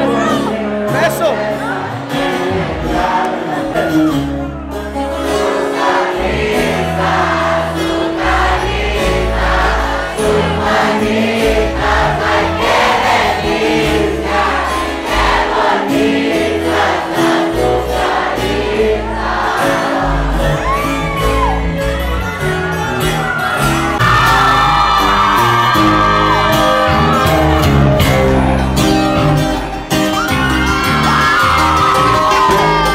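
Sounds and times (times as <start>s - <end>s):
crowd singing along: 0.0s - 22.7s, 23.4s - 30.0s
live band with guitars: 0.0s - 32.9s.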